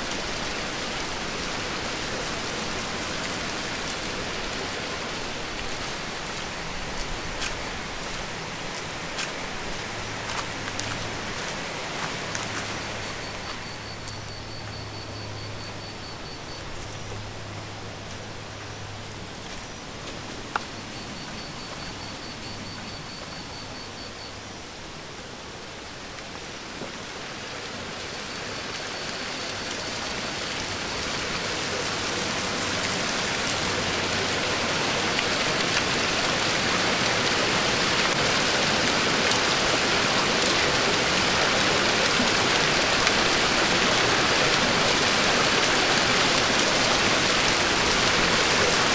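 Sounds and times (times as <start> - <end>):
waterfall rushing: 0.0 - 23.6, 25.4 - 48.9
running channel water: 0.0 - 48.9.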